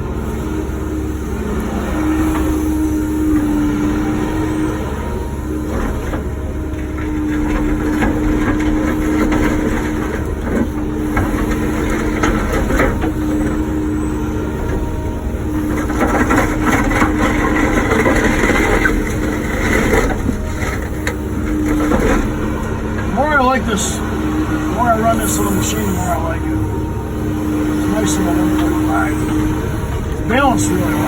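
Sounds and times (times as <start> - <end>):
excavator diesel engine under load: 0.0 - 31.0
bucket knocking and scraping asphalt: 5.6 - 31.0.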